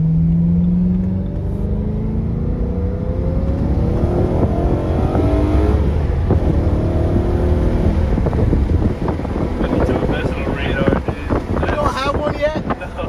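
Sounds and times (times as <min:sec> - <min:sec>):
car engine accelerating from inside: 0:00.0 - 0:11.8.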